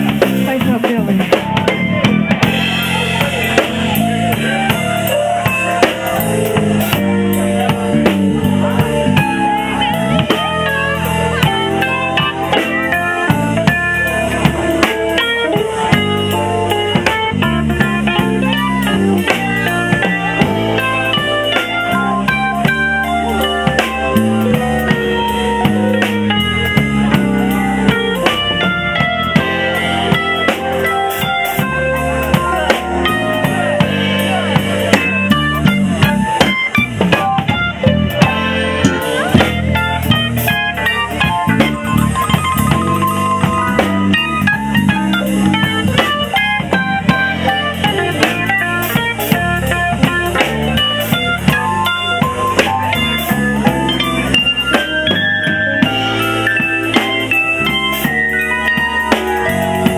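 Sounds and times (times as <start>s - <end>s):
bass guitar: 0.0s - 59.9s
drum kit beat: 0.0s - 59.9s
electric keyboard: 0.0s - 59.9s.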